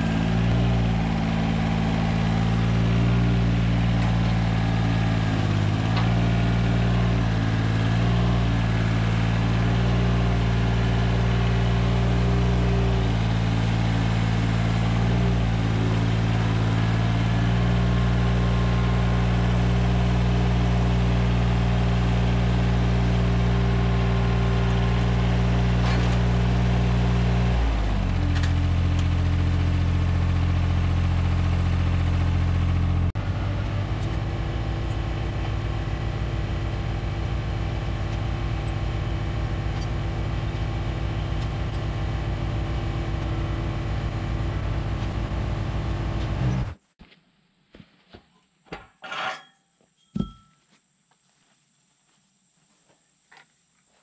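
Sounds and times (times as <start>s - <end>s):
tractor diesel engine running: 0.0s - 46.8s.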